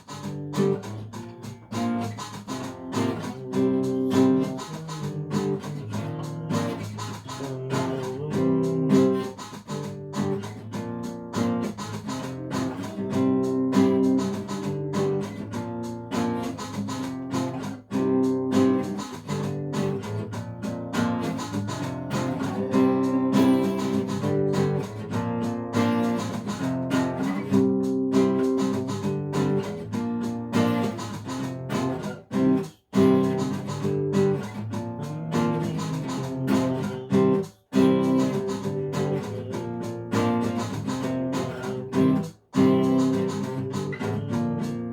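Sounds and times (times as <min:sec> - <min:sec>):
guitar plucked and strummed: 0:00.0 - 0:44.9.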